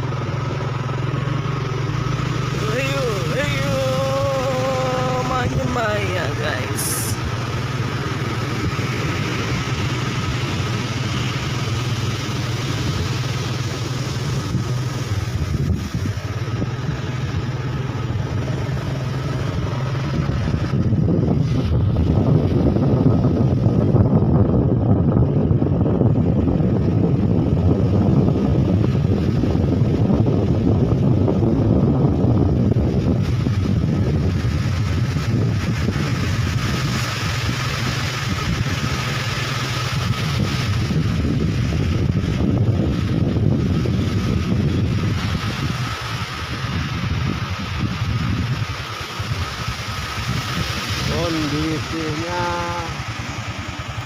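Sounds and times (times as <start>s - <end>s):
motorcycle engine running: 0.0s - 54.0s
rushing noise: 0.0s - 54.0s.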